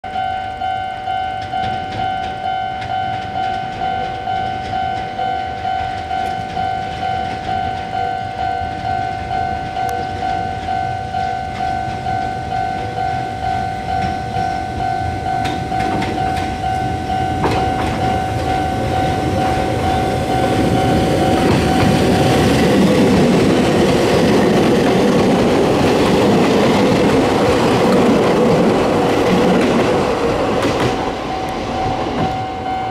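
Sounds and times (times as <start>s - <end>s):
level crossing bell ringing: 0.0s - 32.9s
train running past: 0.1s - 32.9s.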